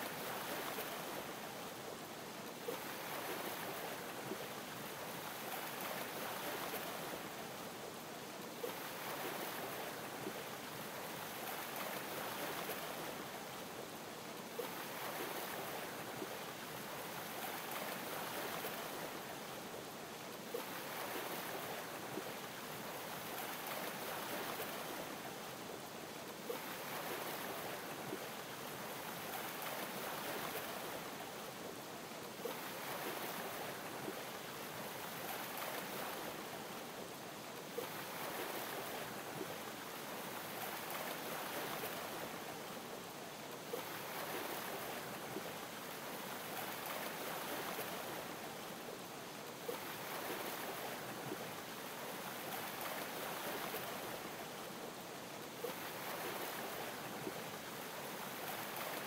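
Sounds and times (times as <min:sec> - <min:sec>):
ocean waves lapping: 0:02.6 - 0:07.4, 0:08.6 - 0:13.1, 0:14.5 - 0:19.4, 0:20.5 - 0:25.7, 0:26.4 - 0:31.3, 0:32.2 - 0:36.8, 0:37.7 - 0:49.0, 0:49.6 - 0:54.5, 0:55.6 - 0:59.0.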